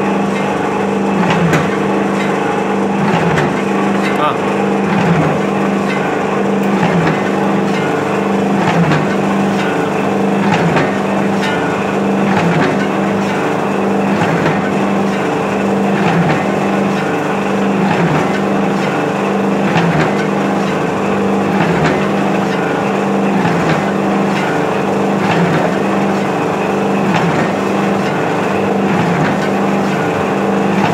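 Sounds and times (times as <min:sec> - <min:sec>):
mixer drive humming: 0:00.0 - 0:30.9.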